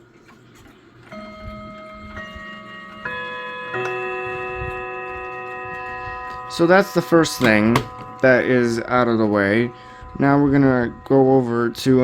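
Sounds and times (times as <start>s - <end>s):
clock chiming: 1.0s - 12.0s.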